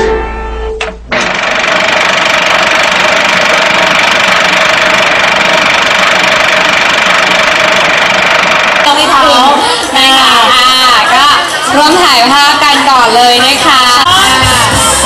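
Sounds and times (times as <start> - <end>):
loud steady drone with hum: 0.0 - 12.2.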